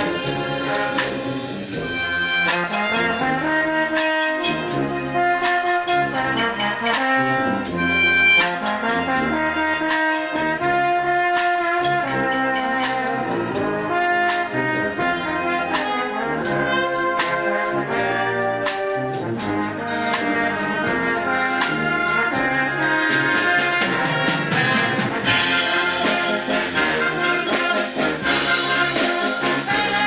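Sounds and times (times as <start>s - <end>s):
brass band playing: 0.0s - 30.0s
steady drum beat: 0.0s - 30.0s.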